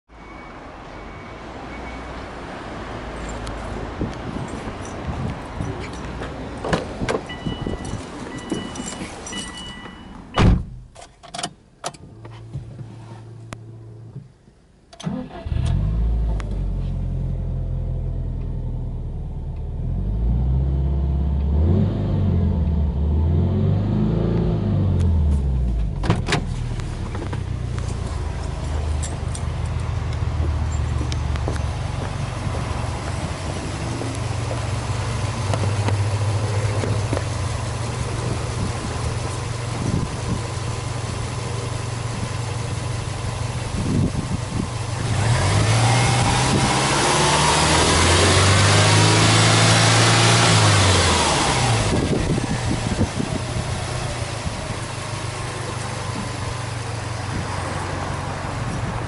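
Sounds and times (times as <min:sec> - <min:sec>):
car engine idling and revving: 0:01.8 - 0:10.4, 0:11.8 - 0:59.0.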